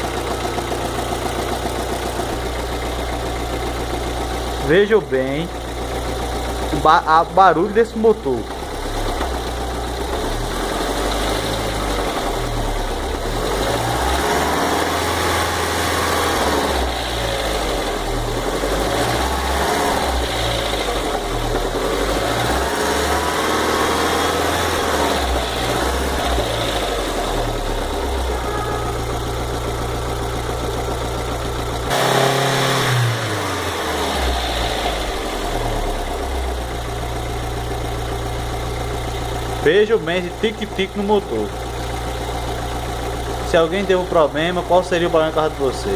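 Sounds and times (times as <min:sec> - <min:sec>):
car engine idling with ticking: 0:00.0 - 0:45.9.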